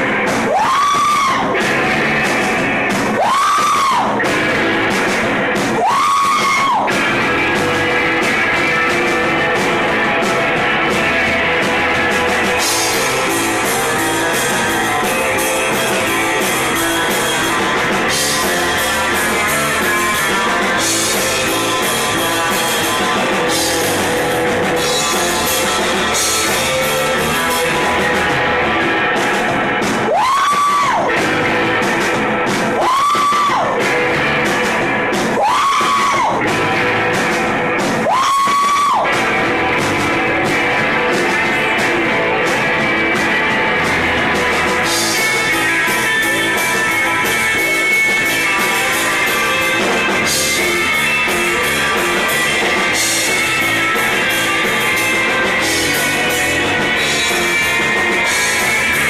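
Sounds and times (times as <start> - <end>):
bass guitar: 0.0 - 59.0
distorted electric guitar: 0.0 - 59.0
drums: 0.0 - 59.0.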